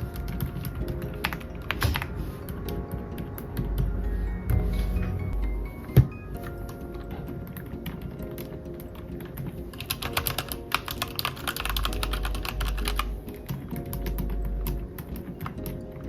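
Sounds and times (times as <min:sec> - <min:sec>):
mechanical keyboard typing: 0:00.0 - 0:04.1, 0:06.4 - 0:16.0
background music: 0:00.0 - 0:16.0.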